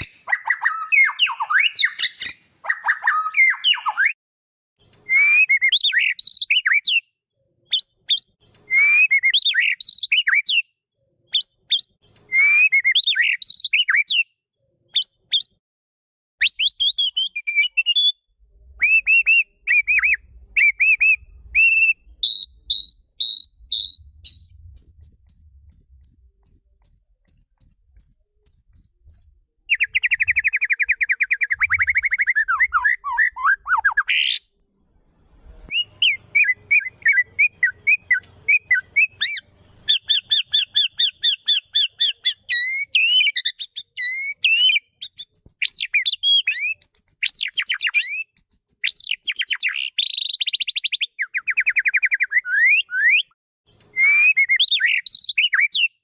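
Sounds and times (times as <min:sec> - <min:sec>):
songbird trills and whistles: 0:00.0 - 0:04.2, 0:04.8 - 0:07.1, 0:07.7 - 0:15.6, 0:16.4 - 0:56.0.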